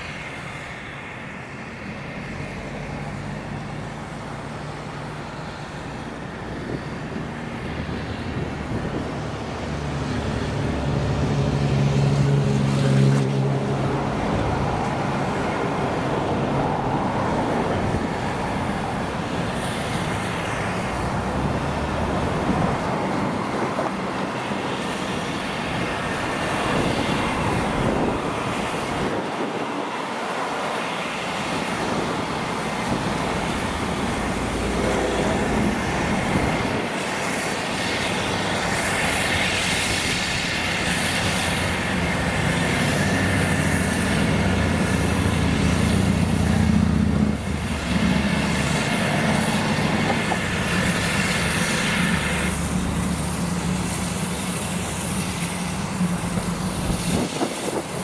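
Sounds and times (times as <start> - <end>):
steam locomotive approaching: 0.0 - 58.0.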